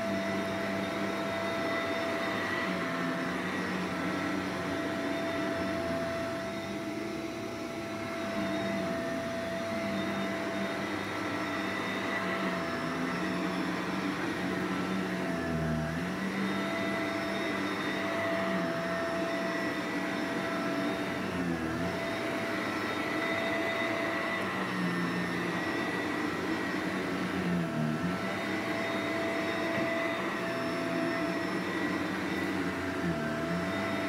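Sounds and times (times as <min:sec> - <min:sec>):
vacuum cleaner on carpet: 0:00.0 - 0:34.0.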